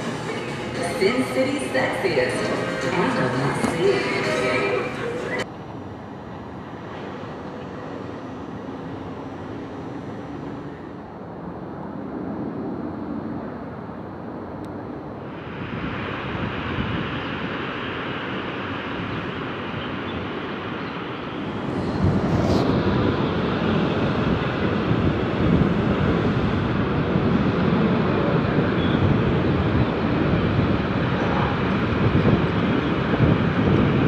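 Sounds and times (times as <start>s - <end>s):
wind buffeting microphone: 5.6s - 34.0s.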